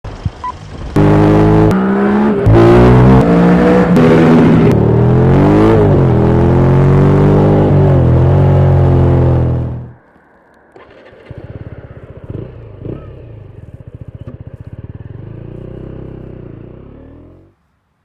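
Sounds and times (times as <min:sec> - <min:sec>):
motorcycle engine accelerating: 0:00.1 - 0:10.0, 0:10.8 - 0:17.6.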